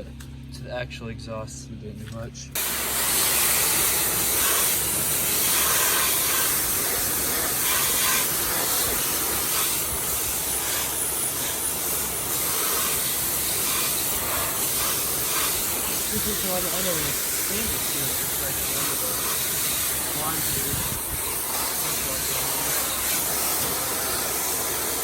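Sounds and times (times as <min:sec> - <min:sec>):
pressure washer spraying water: 0:02.6 - 0:25.0.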